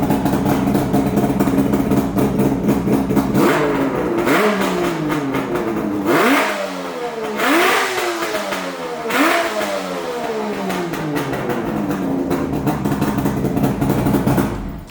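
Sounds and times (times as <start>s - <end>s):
motorcycle engine idling: 0.0s - 14.9s
motorcycle engine revving: 0.0s - 14.9s.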